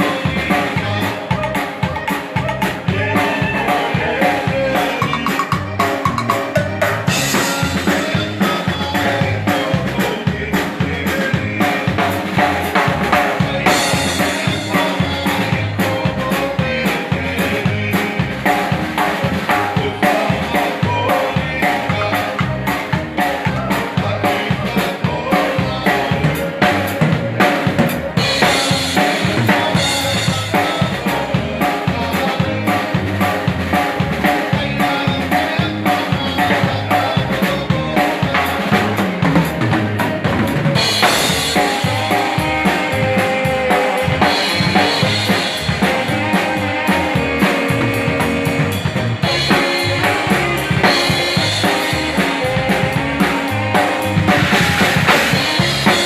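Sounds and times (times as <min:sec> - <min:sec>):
bass line: 0:00.0 - 0:56.0
dance band playing live: 0:00.0 - 0:56.0
drum kit beat: 0:00.0 - 0:56.0.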